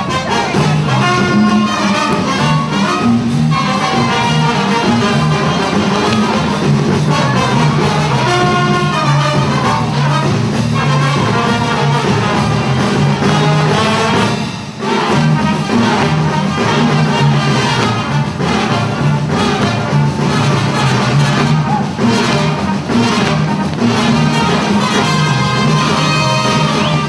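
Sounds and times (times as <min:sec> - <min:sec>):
brass folk dance music: 0:00.0 - 0:27.0.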